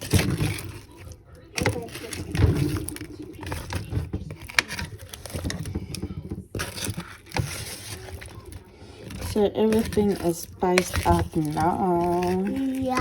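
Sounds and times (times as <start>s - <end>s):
small knocks and scrapes in kitchen: 0.0s - 13.0s.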